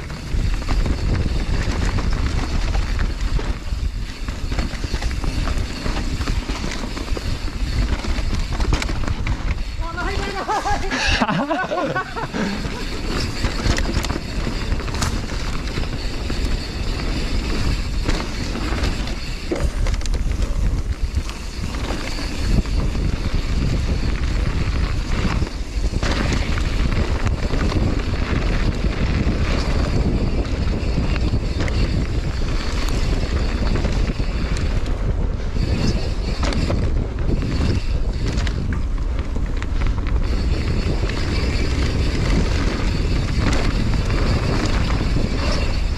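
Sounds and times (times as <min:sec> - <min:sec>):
bike knocking and rattling: 0:00.0 - 0:45.9
bike tyres on dirt: 0:00.0 - 0:45.9
wind rushing over microphone: 0:00.0 - 0:45.9.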